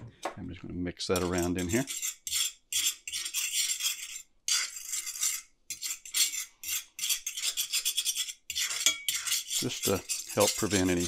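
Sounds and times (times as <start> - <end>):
metal fork scraping cast iron skillet: 1.1 - 11.0.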